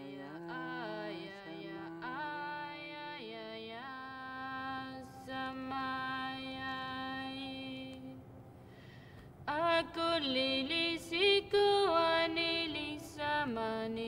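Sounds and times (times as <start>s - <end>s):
woman singing: 0.0s - 8.2s, 9.5s - 14.0s.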